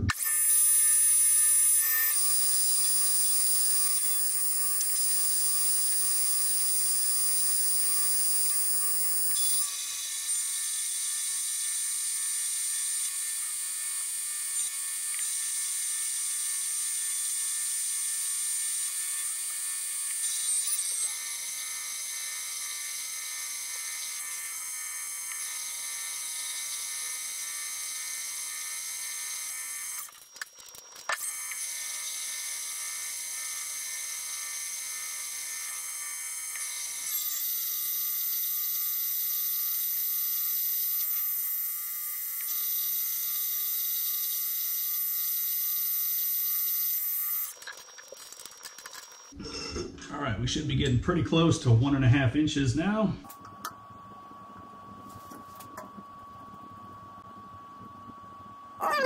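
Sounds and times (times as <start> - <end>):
lathe high-pitched whine: 0.0 - 49.4.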